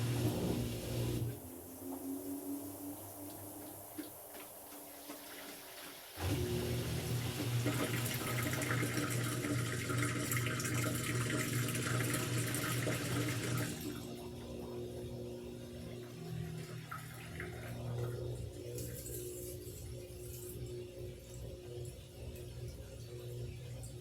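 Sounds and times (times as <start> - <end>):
washing machine hum: 0.0 - 24.0.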